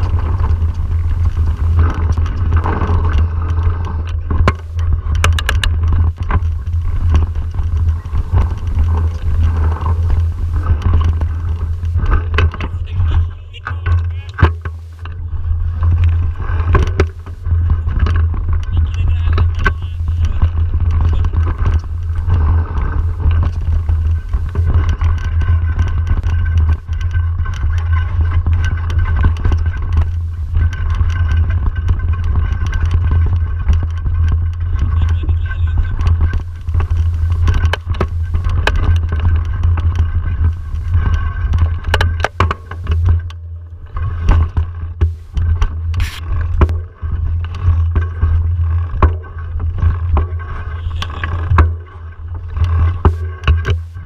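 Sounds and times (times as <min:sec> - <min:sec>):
bike clicks and rattles: 0:00.0 - 0:54.0
tyres rolling on dirt and stones: 0:00.0 - 0:54.0
wind rumble on microphone: 0:00.0 - 0:54.0.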